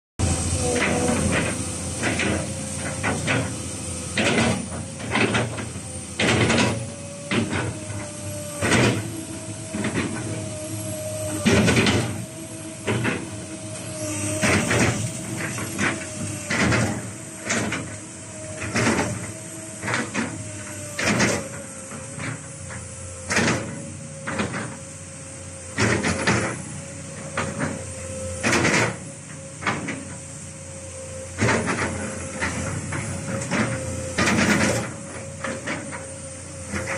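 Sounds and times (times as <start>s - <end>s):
excavator engine whine: 0.2s - 36.9s.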